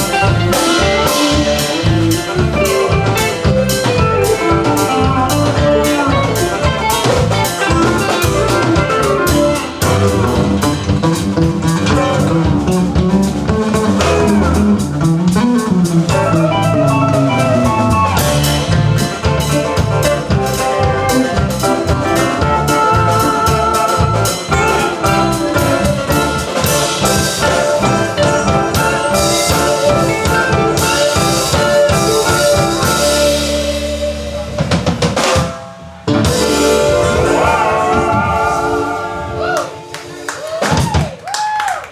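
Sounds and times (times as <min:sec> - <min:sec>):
live band playing fiddle tune: 0:00.0 - 0:41.0
drums: 0:00.0 - 0:41.9.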